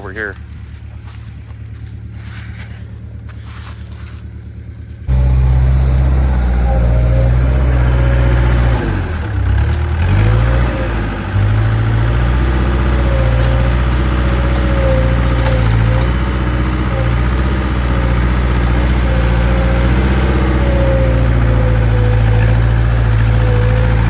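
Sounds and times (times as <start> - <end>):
engine whine under load: 0.0 - 24.0
skid steer engine running: 0.0 - 24.0.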